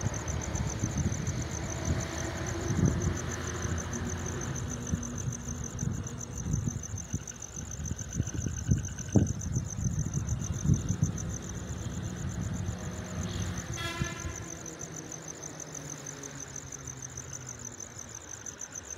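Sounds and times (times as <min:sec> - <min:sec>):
crickets chirping: 0:00.0 - 0:18.9.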